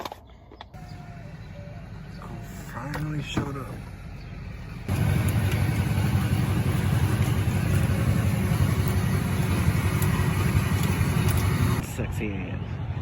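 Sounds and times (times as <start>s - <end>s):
vehicle engine deep rumble: 0.6s - 13.0s.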